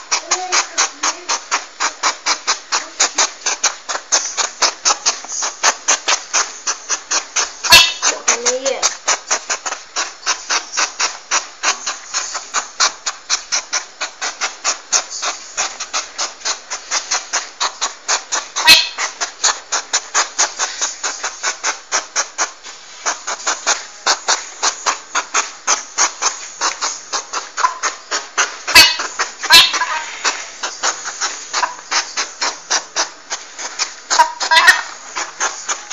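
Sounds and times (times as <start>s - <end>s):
porcupine quills rattling: 0.0s - 35.9s.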